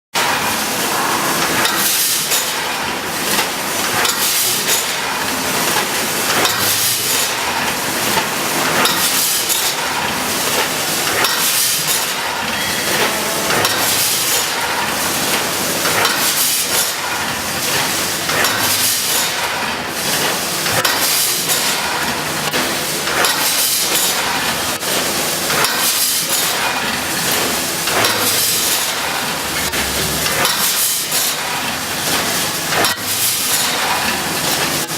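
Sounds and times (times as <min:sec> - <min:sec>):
packaging machine running: 0:00.2 - 0:34.9.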